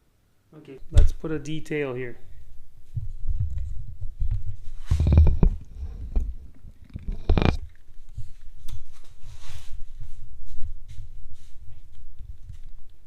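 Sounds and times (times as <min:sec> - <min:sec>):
handling noise on microphone: 0:02.2 - 0:13.0.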